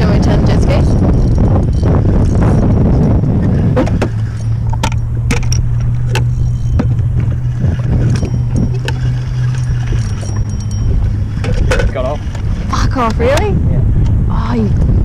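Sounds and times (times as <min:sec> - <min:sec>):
jet ski engine idling: 0:00.0 - 0:13.4.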